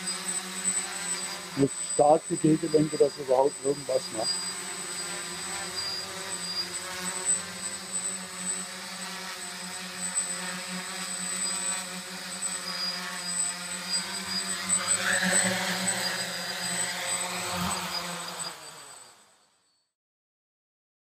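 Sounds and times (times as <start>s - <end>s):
drone buzzing hum: 0.0s - 19.2s.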